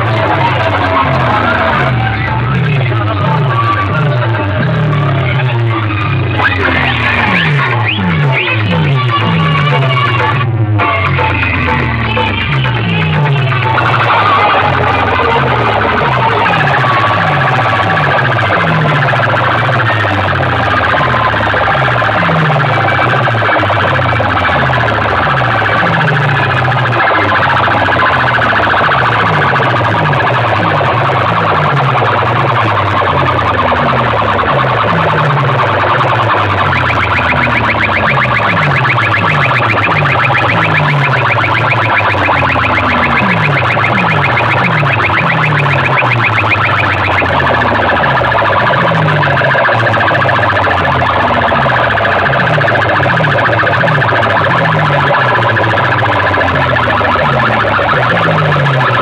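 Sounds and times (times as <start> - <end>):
electronic music on loud speakers: 0.0 - 59.0
fast repeating bass notes: 0.0 - 59.0
high rapid trill: 0.0 - 59.0
warbling siren-like synth: 0.0 - 59.0.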